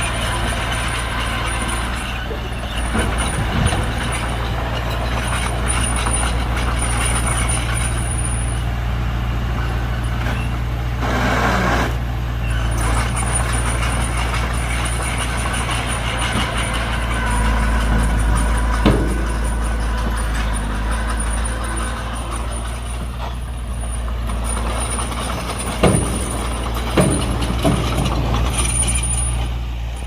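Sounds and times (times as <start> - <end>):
heavy diesel machinery droning: 0.0 - 30.0.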